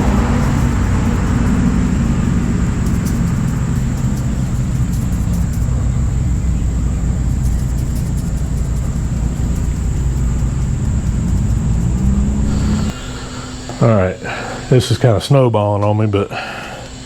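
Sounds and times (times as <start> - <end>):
low machine drone: 0.0 - 15.3.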